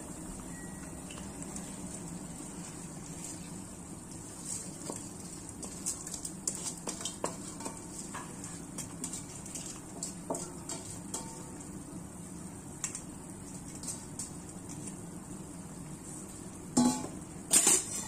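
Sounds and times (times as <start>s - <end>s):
boiling stock hissing: 0.0s - 18.0s.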